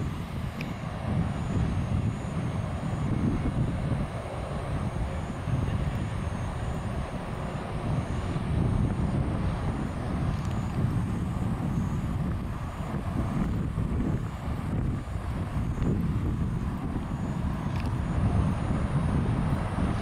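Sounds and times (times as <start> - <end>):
city background rumble: 0.0 - 20.0.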